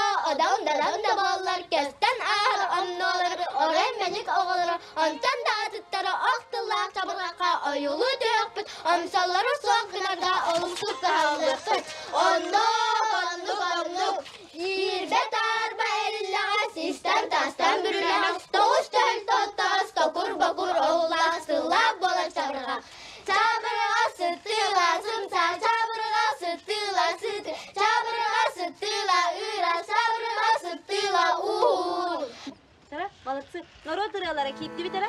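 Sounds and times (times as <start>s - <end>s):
girls singing together: 0.0s - 32.5s.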